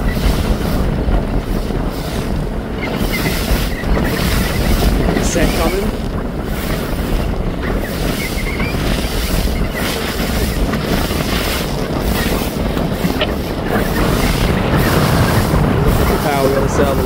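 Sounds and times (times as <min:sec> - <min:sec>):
water splashing against boat hull: 0:00.0 - 0:17.0
wind buffeting microphone: 0:00.0 - 0:17.0.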